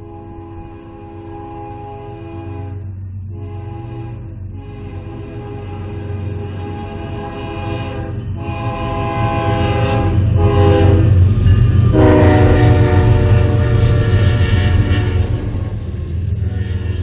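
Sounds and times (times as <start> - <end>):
locomotive air horn blasts: 0.0 - 11.2, 11.9 - 17.0
train rumbling past: 0.0 - 17.0.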